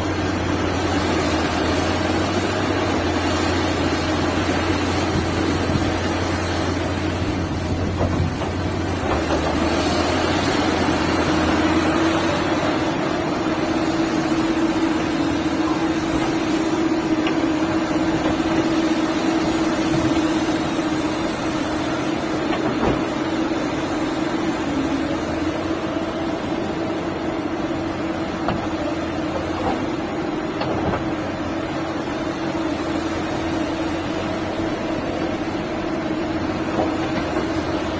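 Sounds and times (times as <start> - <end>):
excavator diesel engine droning: 0.0 - 37.9.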